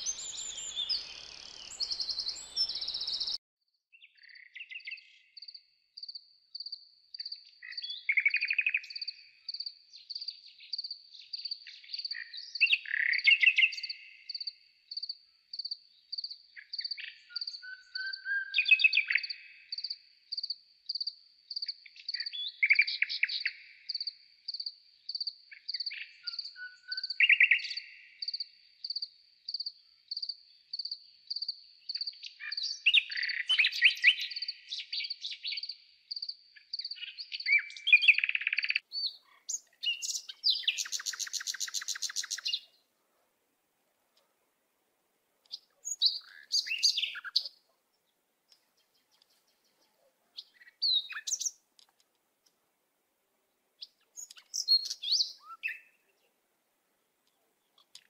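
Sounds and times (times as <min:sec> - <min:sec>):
birds singing and calling: 0:00.0 - 0:03.4, 0:04.0 - 0:42.8, 0:45.4 - 0:47.7, 0:48.5 - 0:52.1, 0:53.8 - 0:56.3, 0:57.2 - 0:58.0.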